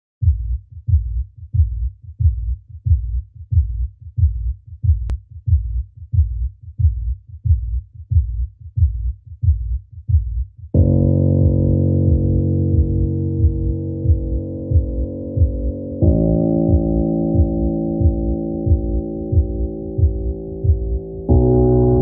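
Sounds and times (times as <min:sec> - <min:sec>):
heartbeat double thump: 0:00.2 - 0:22.0.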